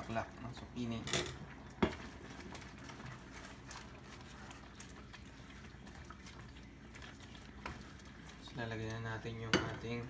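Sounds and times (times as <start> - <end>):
liquid sloshing: 0.0 - 10.0
soup simmering with faint bubbling: 0.0 - 10.0.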